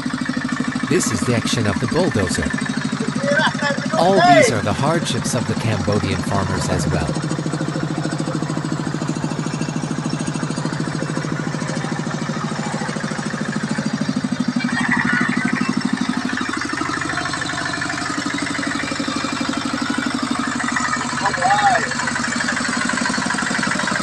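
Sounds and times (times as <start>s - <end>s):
walking tractor engine running: 0.0s - 24.0s.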